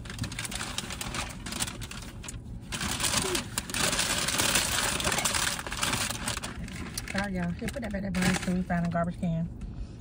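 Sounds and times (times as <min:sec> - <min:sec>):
paper bag rustling: 0:00.0 - 0:09.0.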